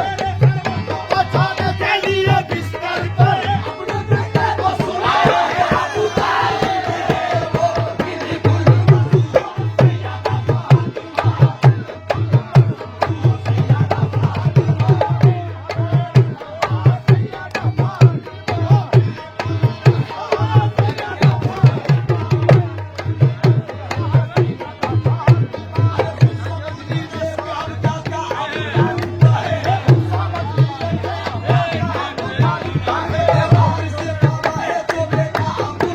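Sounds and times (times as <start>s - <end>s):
hand drum fast rhythm: 0.0s - 35.9s.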